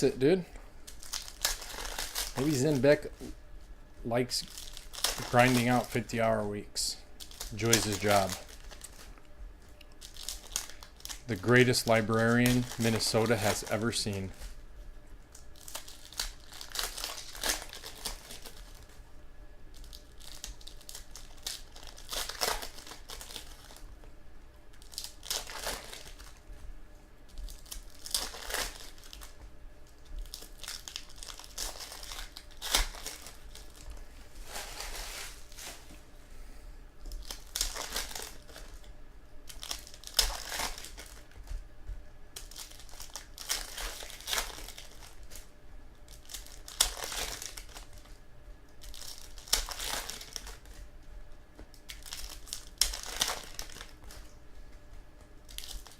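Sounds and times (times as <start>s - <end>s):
card pack wrappers crinkling: 0.0s - 3.3s, 4.1s - 9.1s, 9.8s - 14.6s, 15.3s - 19.0s, 19.7s - 24.0s, 24.7s - 26.4s, 27.3s - 36.0s, 37.0s - 41.6s, 42.4s - 48.2s, 48.8s - 50.8s, 51.6s - 54.4s, 55.2s - 55.9s.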